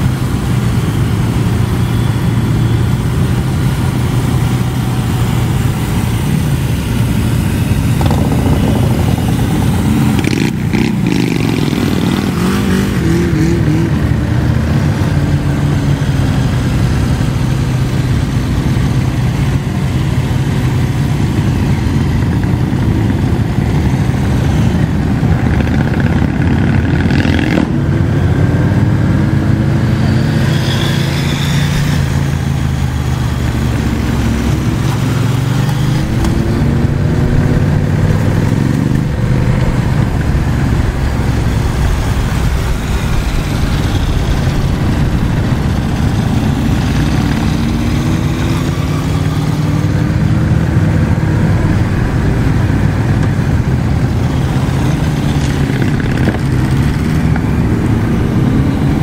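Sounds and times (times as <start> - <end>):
motorcycle engine running low: 0.0 - 59.0
motorcycle engines revving: 0.0 - 59.0
rumble of motorcycles: 0.0 - 59.0.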